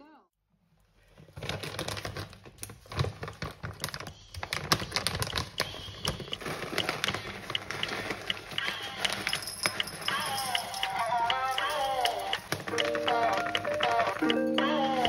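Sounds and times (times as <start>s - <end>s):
plastic bag crinkling: 0.8s - 15.0s
granola rattling in bag: 1.2s - 15.0s.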